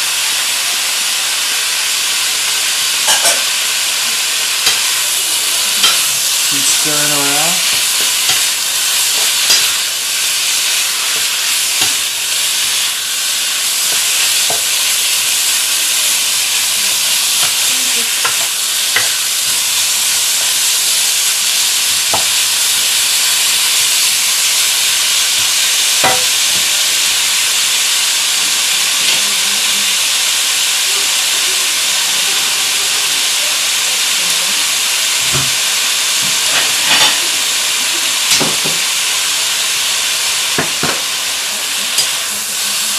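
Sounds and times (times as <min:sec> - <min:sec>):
food sizzling in hot oil: 0:00.0 - 0:42.9.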